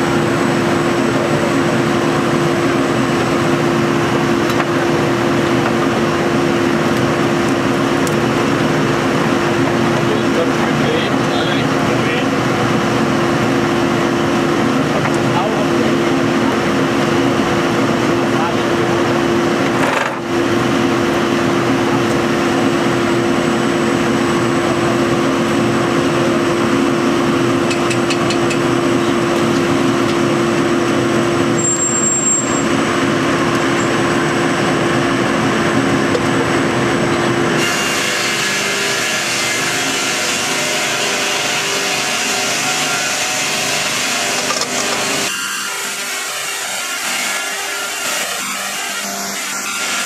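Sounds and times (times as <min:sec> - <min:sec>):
constant motor hum: 0:00.0 - 0:50.0
sawmill machinery running: 0:00.0 - 0:50.0.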